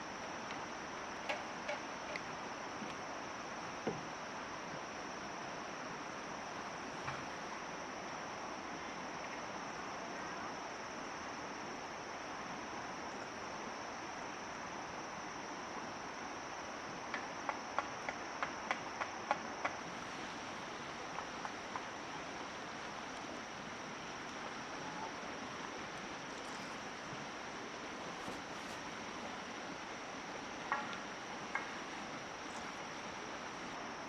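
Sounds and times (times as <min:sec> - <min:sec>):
soft rushing hiss: 0:00.0 - 0:34.0.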